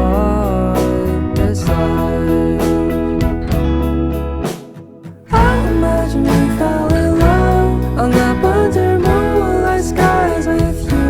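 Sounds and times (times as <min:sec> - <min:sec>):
song with bass and gliding melody: 0:00.0 - 0:04.5, 0:05.3 - 0:11.0.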